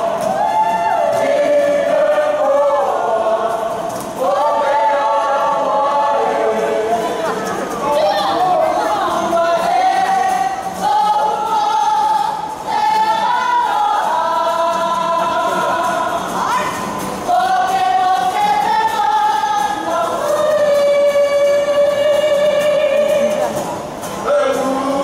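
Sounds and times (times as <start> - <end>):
group singing in chorus: 0.0 - 25.0.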